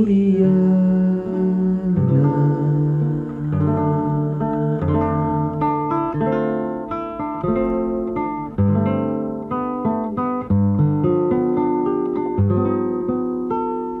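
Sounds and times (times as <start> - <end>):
nylon-string acoustic guitar: 0.0 - 14.0.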